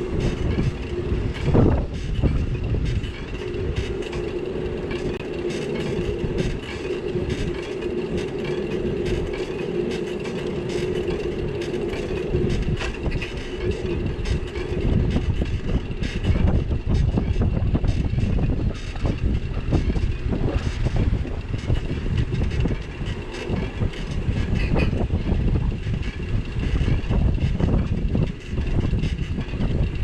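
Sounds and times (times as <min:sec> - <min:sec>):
bicycle road rumble: 0:00.0 - 0:30.0.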